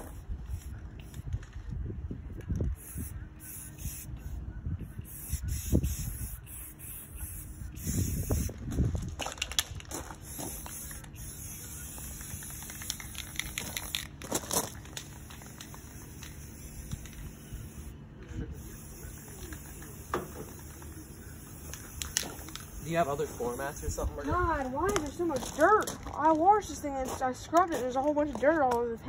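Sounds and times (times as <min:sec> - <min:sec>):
spray paint can hissing: 0:00.0 - 0:01.4, 0:02.5 - 0:25.9.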